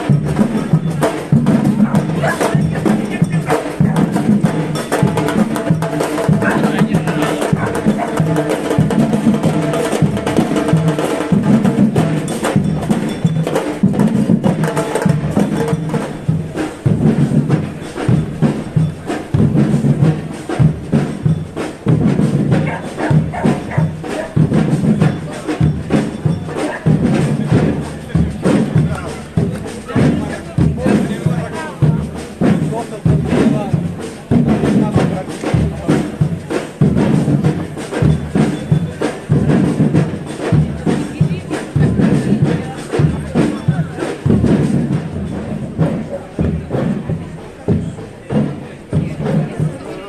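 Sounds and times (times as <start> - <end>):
live music with busy percussion: 0.0 - 50.0.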